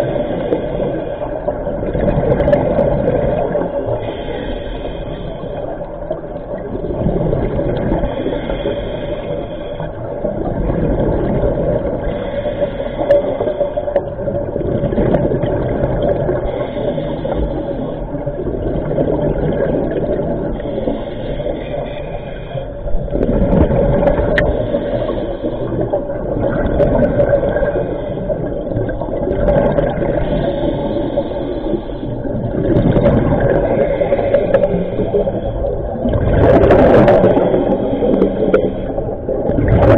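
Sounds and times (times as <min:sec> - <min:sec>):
diver breathing through regulator: 0:00.0 - 0:06.6, 0:07.2 - 0:14.3, 0:15.6 - 0:39.9
bubbling exhale: 0:00.0 - 0:39.9.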